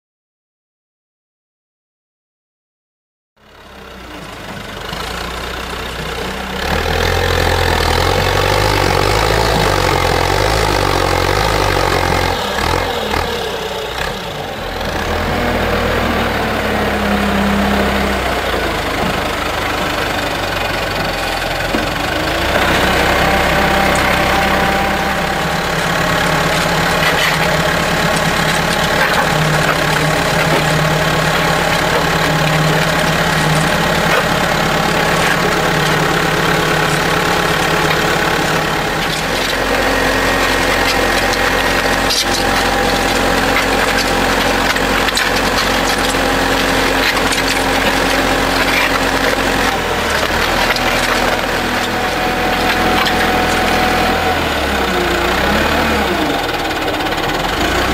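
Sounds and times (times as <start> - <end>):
diesel engine running under load: 3.4 - 57.9.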